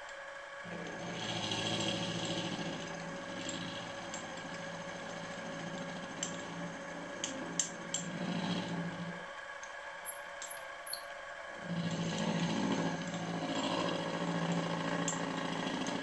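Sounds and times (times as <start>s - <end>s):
motor hum with tones: 0.0s - 16.0s
milling machine cutting metal: 0.7s - 9.4s, 11.6s - 16.0s.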